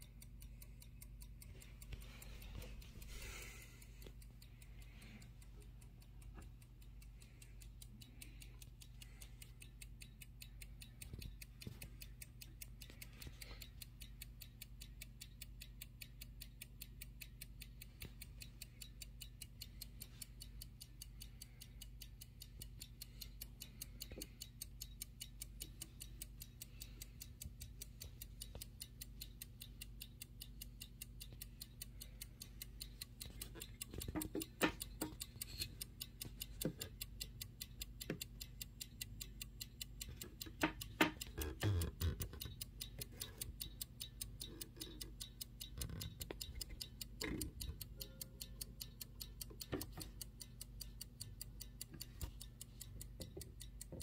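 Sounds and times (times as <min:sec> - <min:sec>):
clock ticking rapidly: 0:00.0 - 0:54.0.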